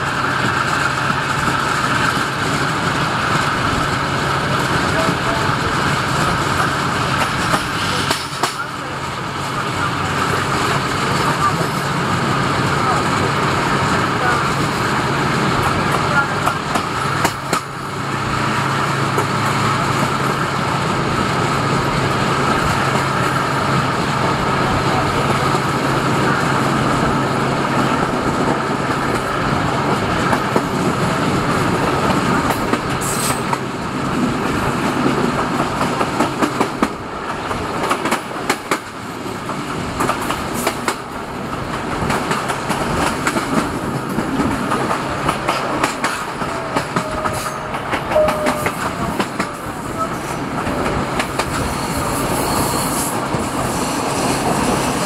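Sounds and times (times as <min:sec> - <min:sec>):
low train engine hum: 0:00.0 - 0:55.0
train wheels clickety-clack: 0:00.0 - 0:55.0.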